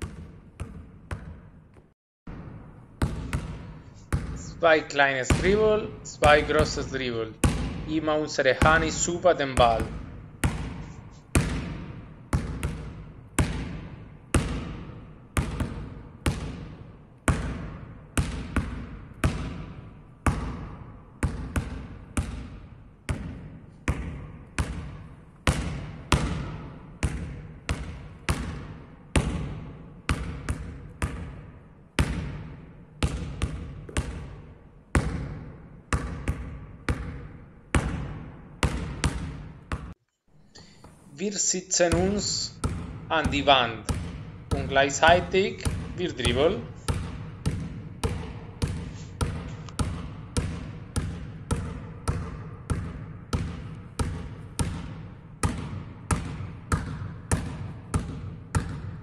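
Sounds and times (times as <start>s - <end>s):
basketball bouncing on hall floor: 0.0s - 41.1s, 41.8s - 59.0s.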